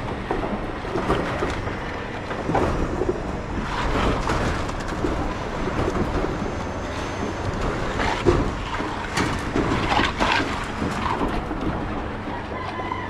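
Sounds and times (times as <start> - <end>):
machine running steadily: 0.0 - 13.0
scraping and clatter of wet concrete: 0.0 - 13.0.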